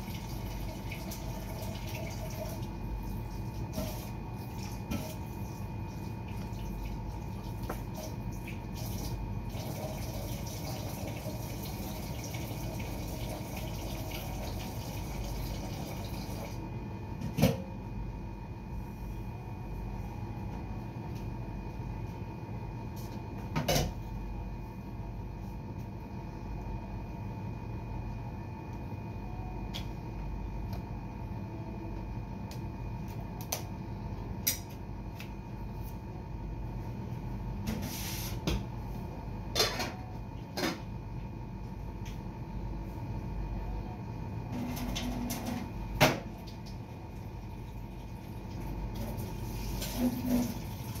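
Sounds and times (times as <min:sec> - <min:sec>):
steady hum: 0:00.0 - 0:51.0.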